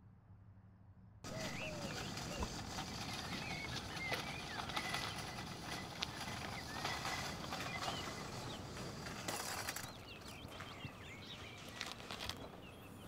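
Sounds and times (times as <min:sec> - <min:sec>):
steady outdoor hiss: 0:01.2 - 0:13.0
small birds chirping: 0:01.3 - 0:13.0.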